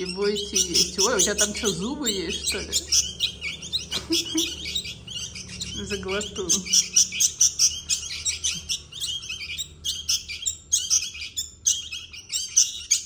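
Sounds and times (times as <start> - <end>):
young birds begging chirps: 0.0 - 13.0.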